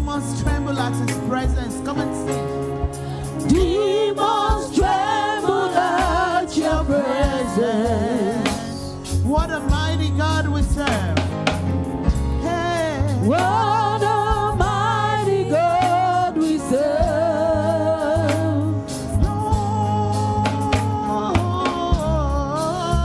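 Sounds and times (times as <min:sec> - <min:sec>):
gospel singing with vibrato: 0:00.0 - 0:11.4, 0:12.0 - 0:23.0
bass line: 0:00.0 - 0:23.0
drums: 0:00.0 - 0:23.0.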